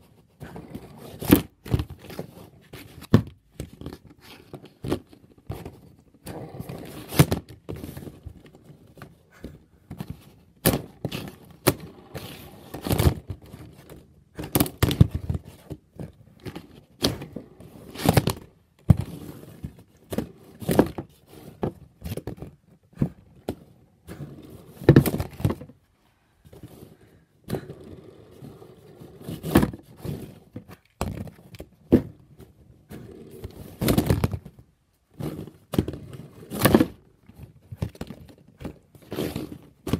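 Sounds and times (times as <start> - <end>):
plastic scraping across cardboard: 0.2 - 25.8, 26.5 - 34.5, 35.1 - 39.9.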